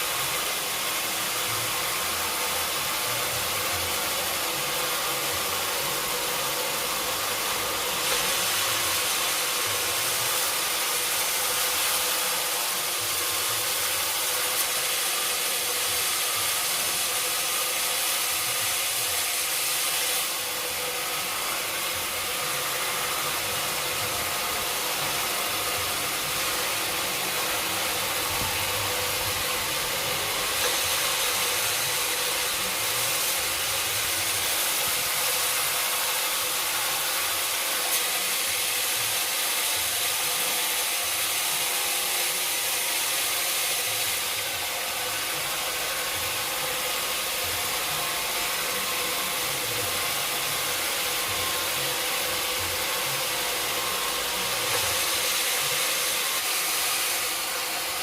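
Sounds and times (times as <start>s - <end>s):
sawmill saw and motor running: 0.0s - 58.0s.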